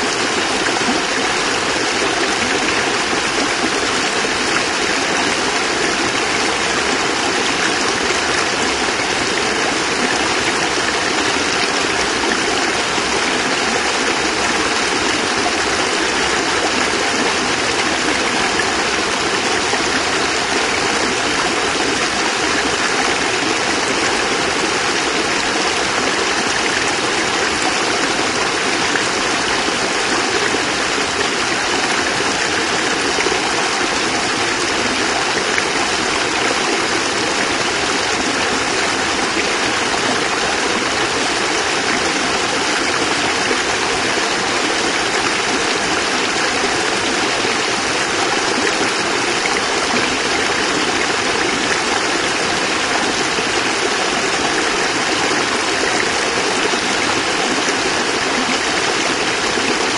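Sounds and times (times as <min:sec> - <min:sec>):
water cascade splashing: 0:00.0 - 0:59.9.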